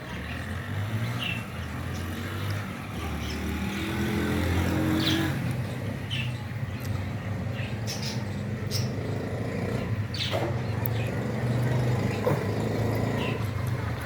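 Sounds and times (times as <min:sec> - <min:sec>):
vehicle engine passing: 0:00.0 - 0:14.0.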